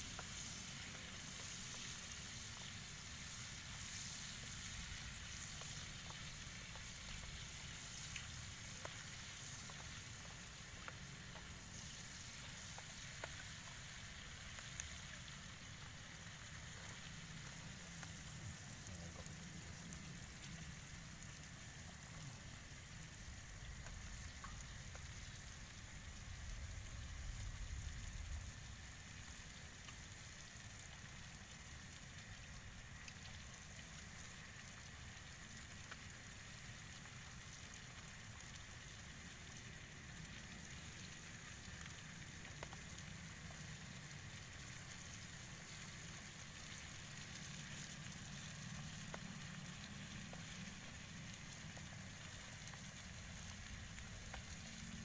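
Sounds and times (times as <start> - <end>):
heavy rain hissing: 0.0 - 55.0
raindrops ticking: 0.0 - 55.0.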